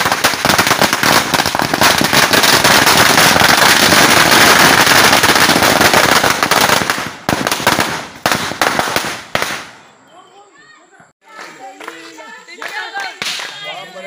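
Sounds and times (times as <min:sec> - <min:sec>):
firecrackers crackling: 0:00.0 - 0:10.0, 0:11.2 - 0:14.0.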